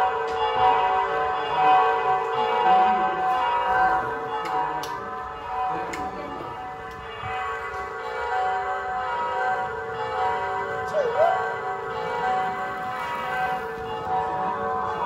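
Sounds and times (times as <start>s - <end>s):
bells ringing: 0.0s - 15.0s.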